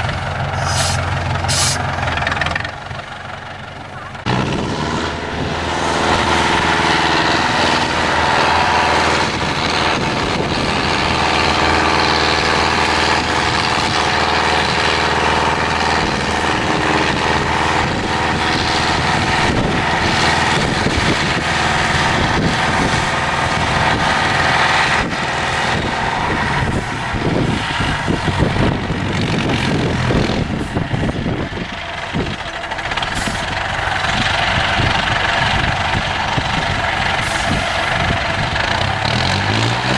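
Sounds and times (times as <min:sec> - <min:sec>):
truck diesel engine under load: 0:00.0 - 0:39.9.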